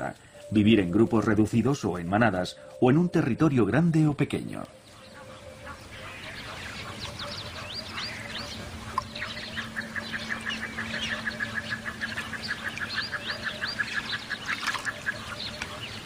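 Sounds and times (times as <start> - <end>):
ducks calling: 0.0 - 16.0.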